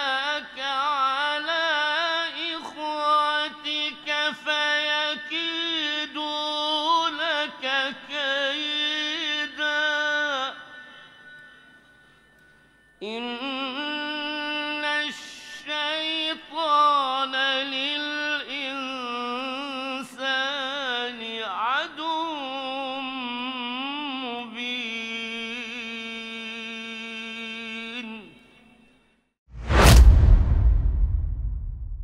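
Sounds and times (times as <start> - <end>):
man chanting into microphone: 0.0 - 10.6, 13.0 - 28.4.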